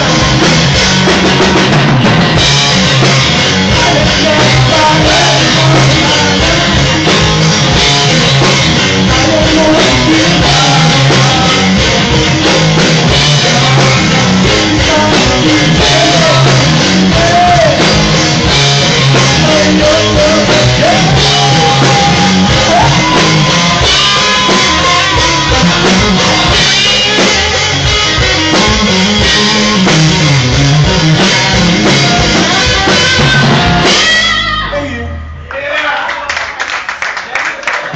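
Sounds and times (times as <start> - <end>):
drum kit: 0.0 - 34.9
electric guitar: 0.0 - 35.4.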